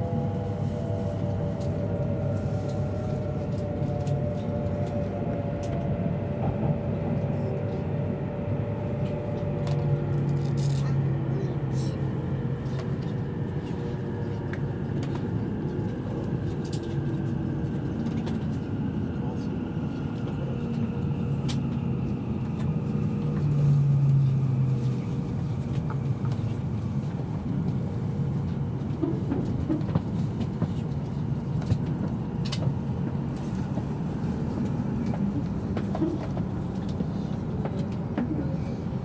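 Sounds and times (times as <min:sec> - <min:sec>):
train cabin rumble: 0:00.0 - 0:39.0.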